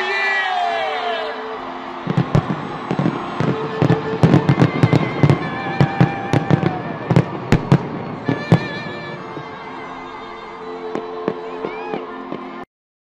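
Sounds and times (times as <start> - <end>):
fireworks banging: 1.5 - 12.6.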